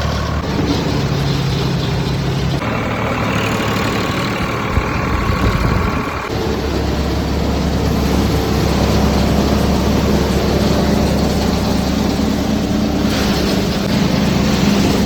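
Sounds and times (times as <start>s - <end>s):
tractor engine droning: 0.0s - 15.0s
thresher: 0.1s - 15.0s.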